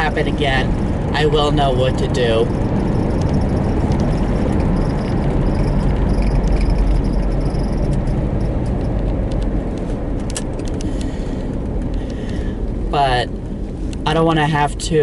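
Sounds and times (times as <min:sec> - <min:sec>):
car cabin road and engine hum: 0:00.0 - 0:15.0.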